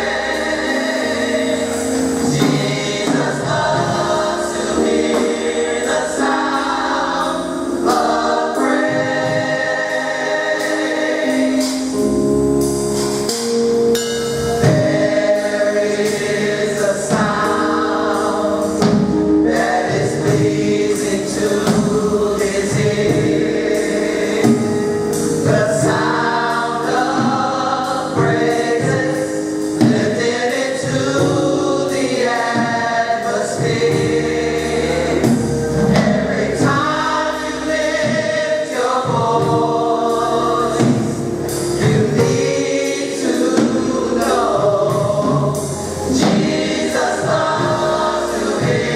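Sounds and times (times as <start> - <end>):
gospel choir singing: 0.0 - 48.9.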